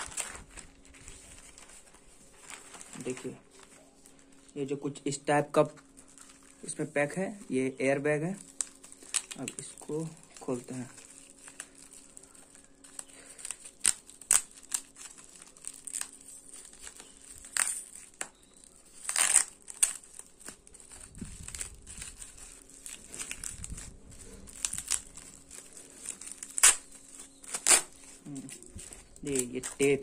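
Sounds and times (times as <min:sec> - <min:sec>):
bubble wrap crinkling and snapping: 0:00.0 - 0:04.6, 0:05.6 - 0:30.0.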